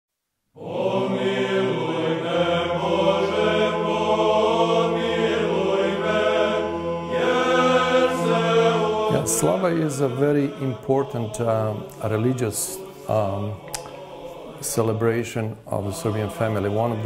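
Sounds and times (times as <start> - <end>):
voices chanting a hymn: 0.6 - 17.0.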